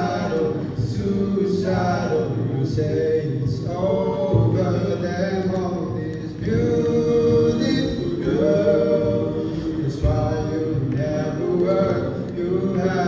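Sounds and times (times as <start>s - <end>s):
male voices singing in harmony: 0.0s - 13.0s.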